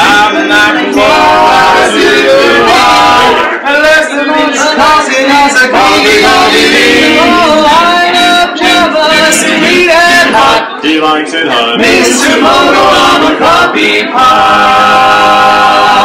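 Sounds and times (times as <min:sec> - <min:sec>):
male quartet singing a cappella: 0:00.0 - 0:16.0.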